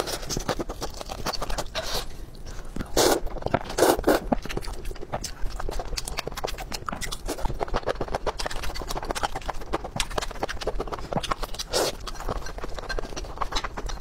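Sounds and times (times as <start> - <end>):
chewing and wet mouth sounds: 0.0 - 14.0.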